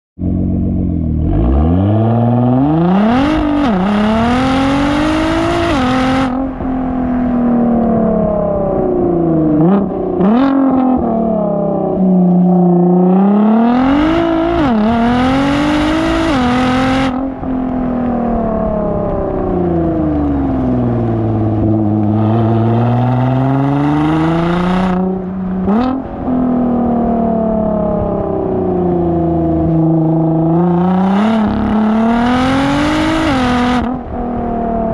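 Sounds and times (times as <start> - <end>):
car engine accelerating hard: 0.2 - 34.9.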